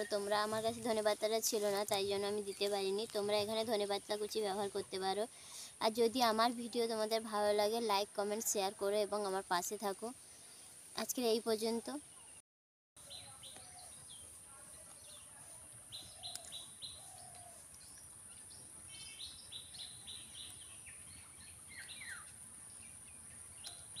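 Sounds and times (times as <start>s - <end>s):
small birds chirping: 0.0s - 8.6s, 13.0s - 24.0s.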